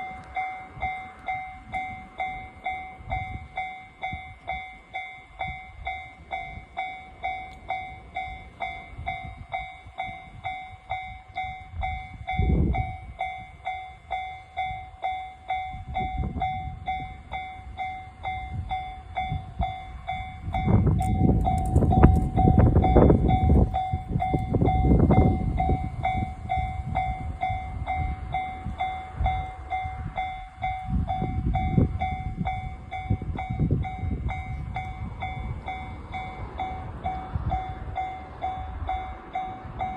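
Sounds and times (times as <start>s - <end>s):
level crossing warning bell: 0.0s - 39.9s
train rumbling over crossing: 0.0s - 39.9s.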